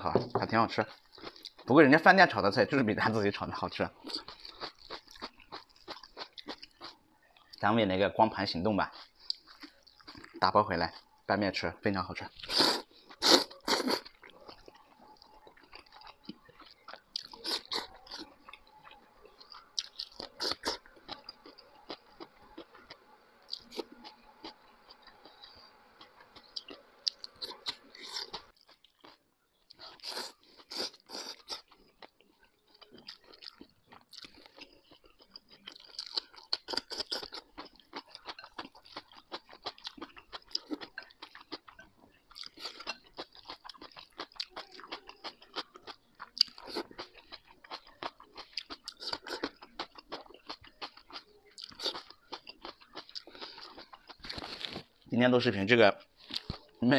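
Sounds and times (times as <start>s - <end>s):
person chewing and slurping noodles: 4.0s - 7.6s, 8.9s - 11.1s, 12.3s - 55.0s, 56.0s - 56.9s.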